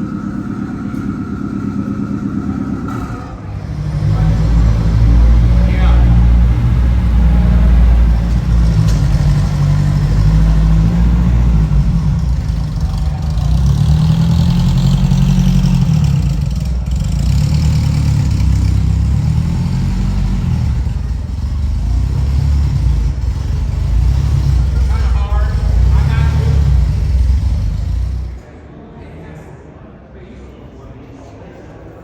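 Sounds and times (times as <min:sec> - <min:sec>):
car engine idling: 0:00.0 - 0:28.4.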